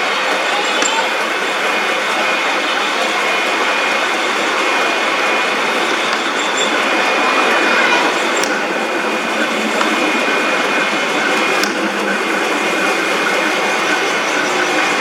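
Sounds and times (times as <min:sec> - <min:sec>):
metal lathe cutting iron: 0:00.0 - 0:15.0.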